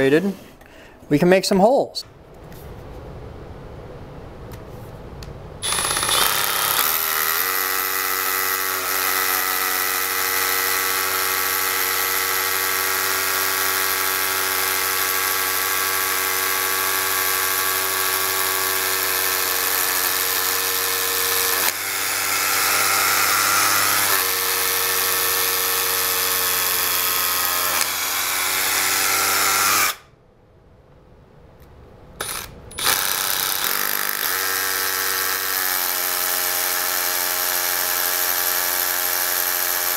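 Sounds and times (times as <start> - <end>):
rotary hammer drilling concrete: 5.6 - 30.0, 32.2 - 39.9.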